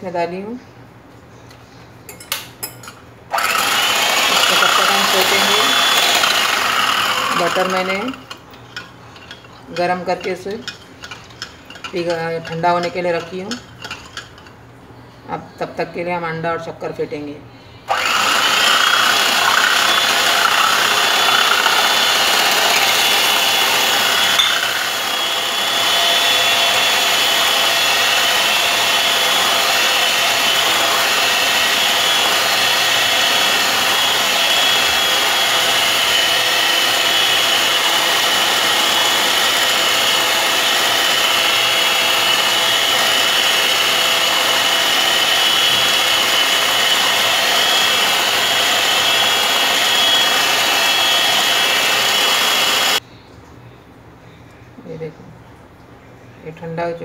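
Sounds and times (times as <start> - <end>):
electric hand mixer whisking: 3.3 - 14.3, 17.9 - 53.0.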